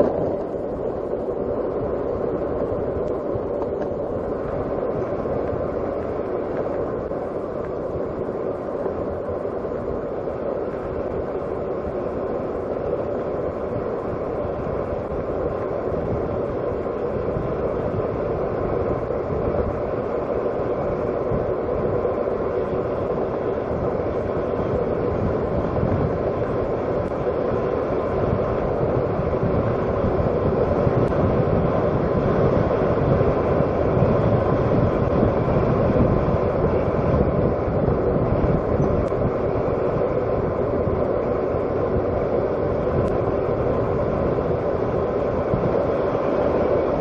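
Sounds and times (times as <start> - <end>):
vehicle engine rumble: 0.0 - 47.0.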